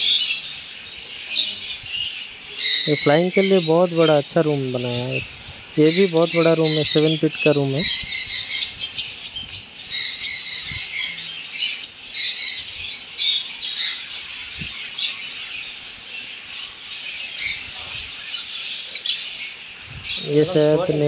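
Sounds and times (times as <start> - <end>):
small parrots chattering: 0.0 - 21.0.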